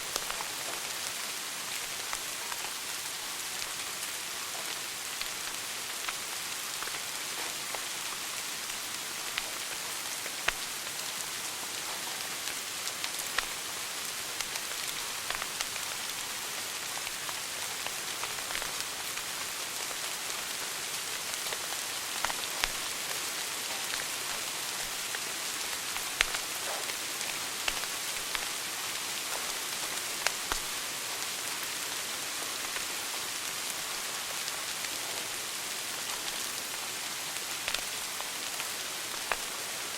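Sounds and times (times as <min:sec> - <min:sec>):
fire crackling and popping: 0:00.0 - 0:31.8, 0:32.5 - 0:39.9
wood fire hissing: 0:00.0 - 0:39.9.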